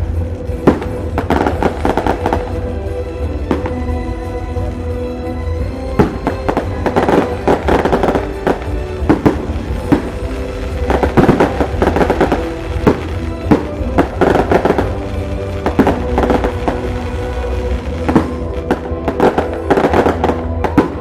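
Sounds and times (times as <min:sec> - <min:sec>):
firecrackers banging: 0:00.0 - 0:21.0
music playing: 0:00.0 - 0:21.0.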